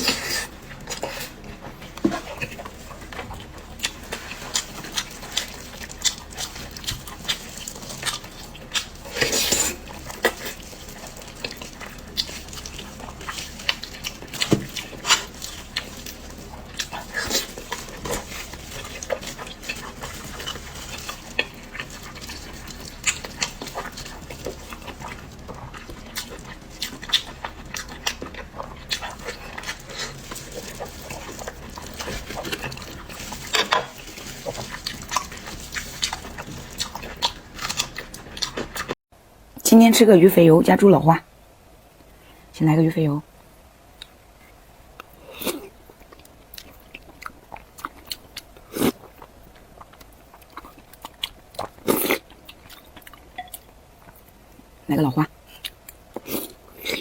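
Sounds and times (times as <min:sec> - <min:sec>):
wet chewing and smacking: 0:00.0 - 0:39.0, 0:45.0 - 0:54.5.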